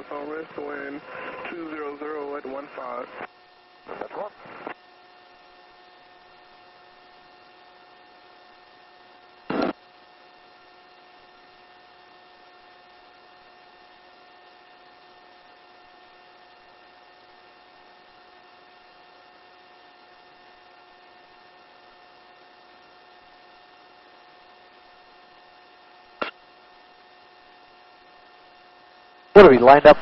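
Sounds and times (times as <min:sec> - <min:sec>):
headset intercom electrical hum: 0:00.0 - 0:30.0.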